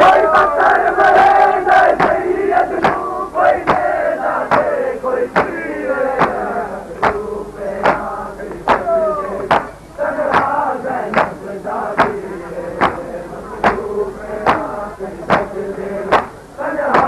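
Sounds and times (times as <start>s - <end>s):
crowd slapping chests in unison: 0.0s - 17.0s
men chanting and shouting: 0.0s - 17.0s.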